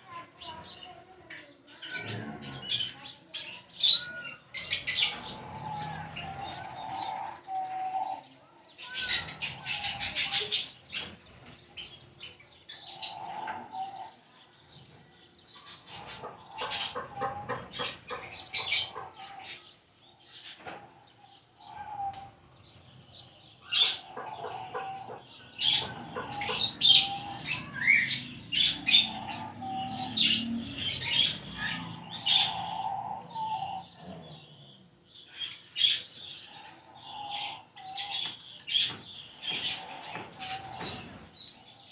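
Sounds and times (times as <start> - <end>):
lovebirds chirping and calling: 0.0 - 41.9.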